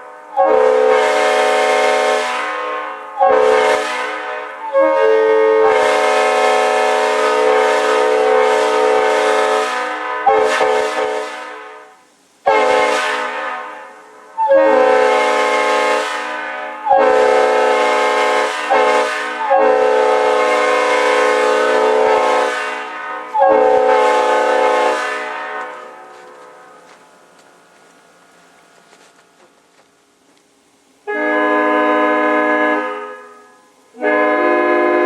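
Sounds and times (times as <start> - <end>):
train air horn blasts: 0.0 - 28.8, 31.0 - 35.0.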